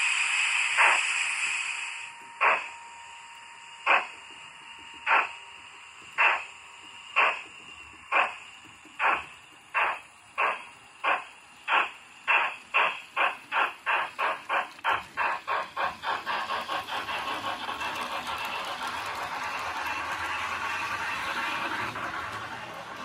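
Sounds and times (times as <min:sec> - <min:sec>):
steam locomotive chuffs: 0:00.0 - 0:02.8, 0:03.8 - 0:23.0.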